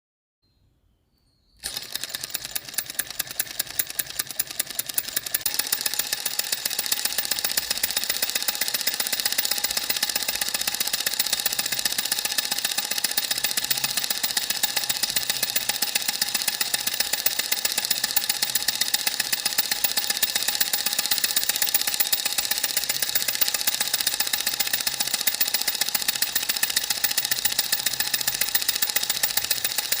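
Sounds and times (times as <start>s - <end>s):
machine running with mechanical clatter: 1.6s - 30.0s.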